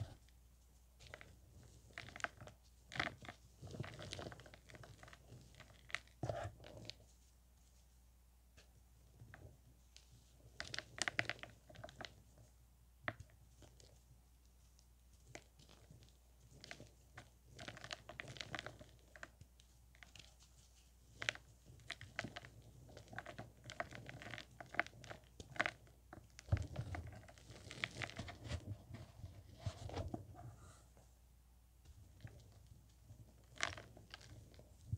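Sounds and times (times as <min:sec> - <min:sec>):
hands crushing chalky powder: 0:00.0 - 0:07.9, 0:08.6 - 0:30.0, 0:31.9 - 0:34.9.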